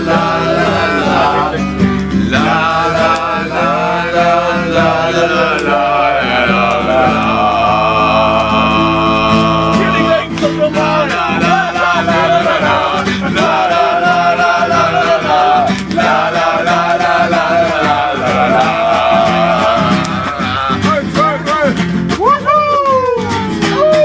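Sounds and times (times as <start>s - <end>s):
people singing: 0.0s - 21.8s
acoustic guitar strumming: 0.0s - 24.0s.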